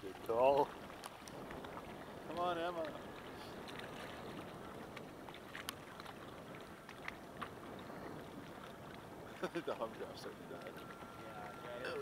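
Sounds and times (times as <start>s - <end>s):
waves chopping on lake: 0.0s - 12.0s
wind: 0.0s - 12.0s.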